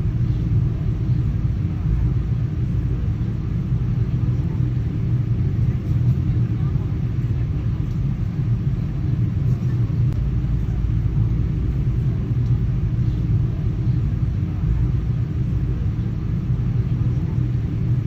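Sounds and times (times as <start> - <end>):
airplane engine drone: 0.0 - 18.0.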